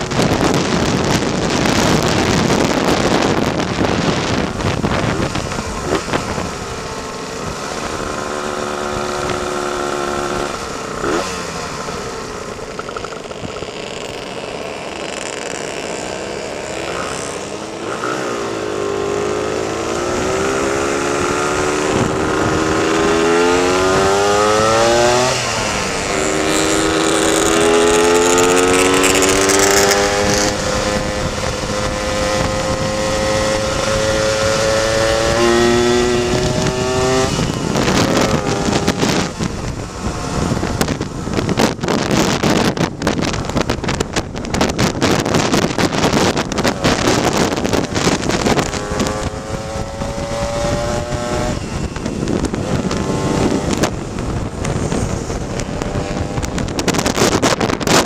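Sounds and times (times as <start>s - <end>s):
scooter engine pulling through gears: 0.0s - 58.0s
wind buffeting microphone: 0.0s - 58.0s.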